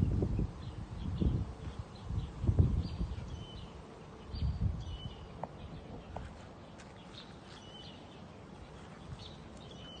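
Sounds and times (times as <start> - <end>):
bird chirping: 0.0 - 10.0
steady background noise: 0.0 - 10.0.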